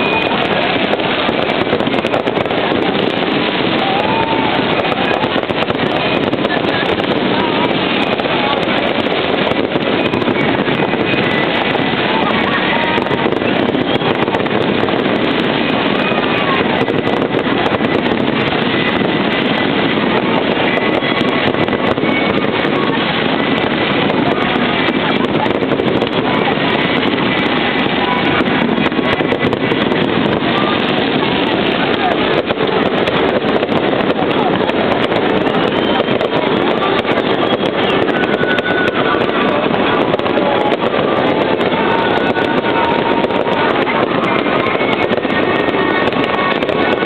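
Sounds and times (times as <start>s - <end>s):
fireworks popping and crackling: 0.0s - 47.0s
large crowd noise: 0.0s - 47.0s.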